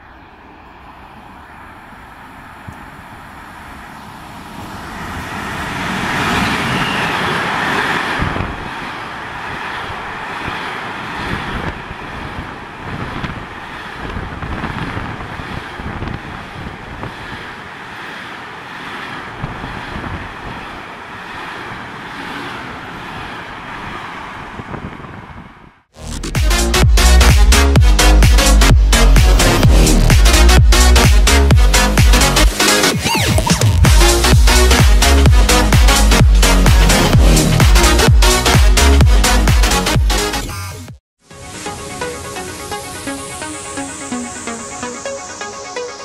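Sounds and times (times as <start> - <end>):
freight train passing: 0.0 - 25.9, 26.5 - 40.4, 41.2 - 46.0.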